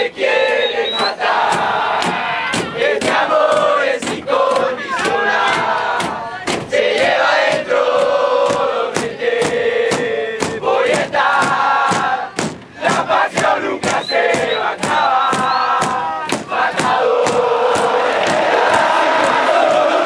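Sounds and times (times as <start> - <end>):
crowd chanting in unison: 0.0 - 20.0
sharp steady drum beat: 1.2 - 20.0.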